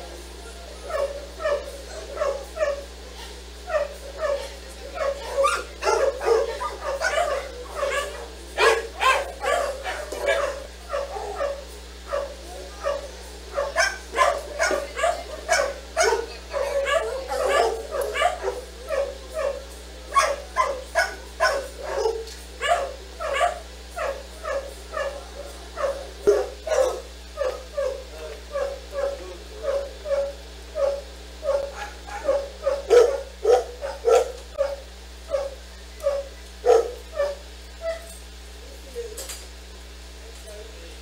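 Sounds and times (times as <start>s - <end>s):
dog barking and yipping: 0.7s - 38.2s.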